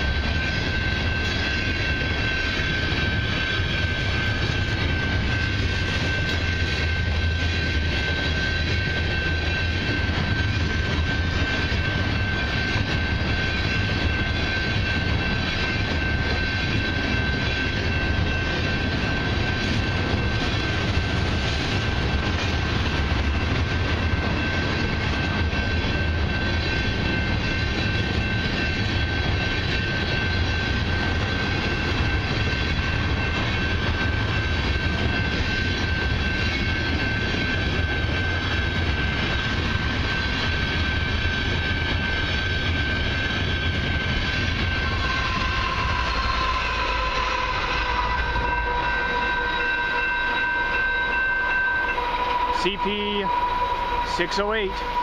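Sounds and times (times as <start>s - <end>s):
crossing bell ringing: 0.0s - 55.0s
train wheels rumbling on rail: 0.0s - 55.0s.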